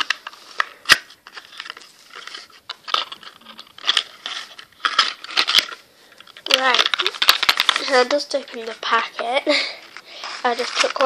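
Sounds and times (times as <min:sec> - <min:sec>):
plastic packet crinkling and tearing: 0:00.0 - 0:11.0.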